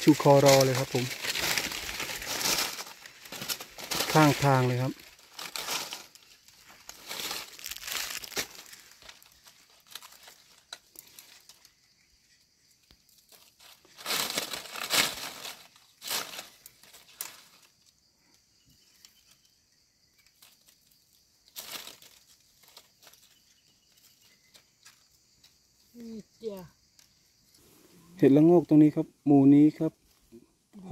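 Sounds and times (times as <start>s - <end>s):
dry leaves crackling and rustling: 0.0s - 18.0s, 20.1s - 27.2s.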